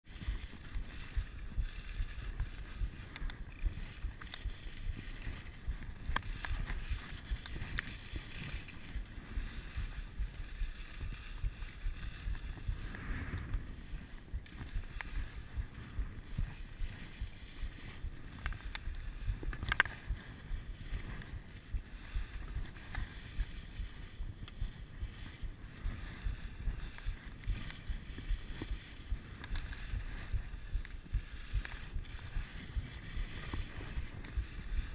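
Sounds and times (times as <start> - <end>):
skis scraping over snow: 0.0 - 34.9.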